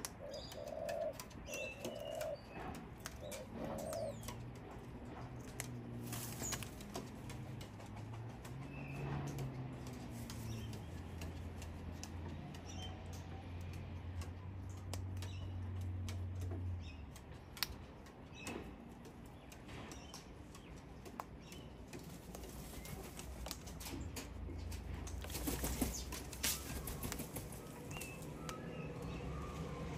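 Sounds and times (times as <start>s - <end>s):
beaks and claws tapping wood: 0.0s - 29.9s.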